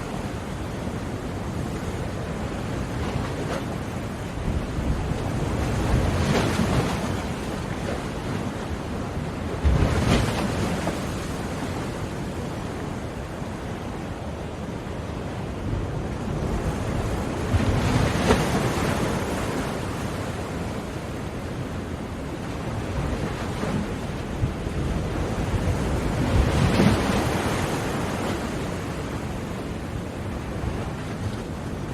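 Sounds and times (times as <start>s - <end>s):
ocean waves breaking: 0.0s - 31.9s.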